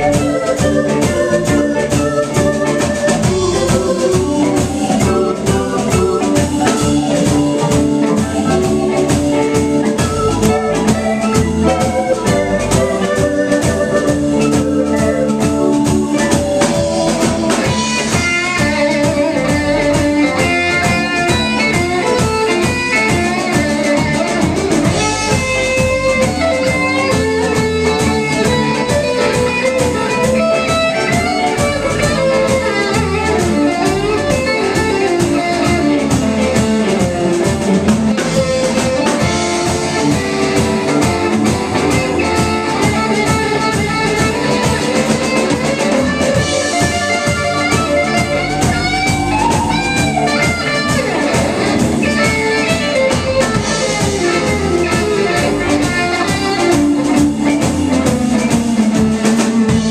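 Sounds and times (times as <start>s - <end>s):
bass guitar: 0.0s - 59.9s
drum kit beat: 0.0s - 59.9s
electric guitar lead line: 0.0s - 59.9s.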